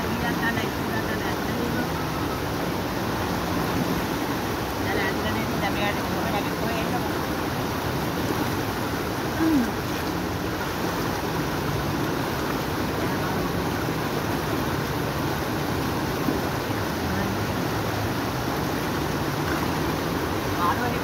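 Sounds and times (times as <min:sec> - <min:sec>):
stream water rushing around legs: 0:00.0 - 0:21.0.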